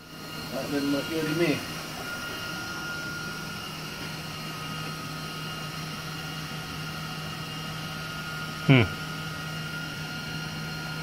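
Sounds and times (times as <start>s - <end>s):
faint high whine: 0.0s - 11.0s
steady low hum: 0.0s - 11.0s.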